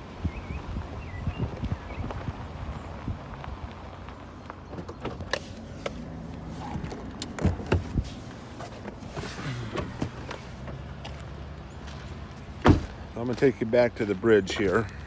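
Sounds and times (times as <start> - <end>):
truck engine low hum: 0.0 - 15.0.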